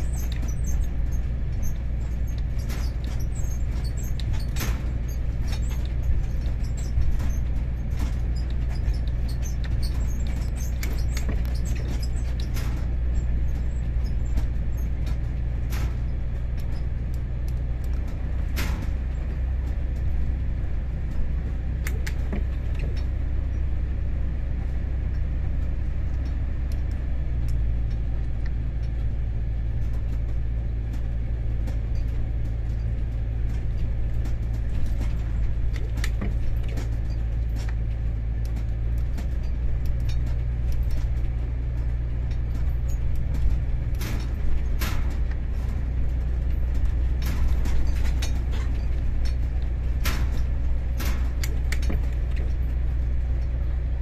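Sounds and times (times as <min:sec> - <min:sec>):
diesel engine running: 0:00.0 - 0:54.0
wheels clacking over rail joints: 0:00.0 - 0:54.0.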